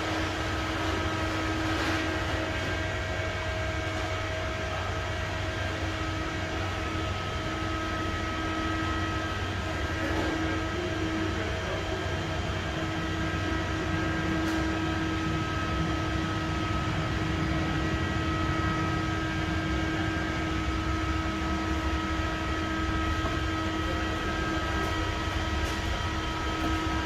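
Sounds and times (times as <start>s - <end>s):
mechanical hum with low rumble: 0.0s - 27.0s.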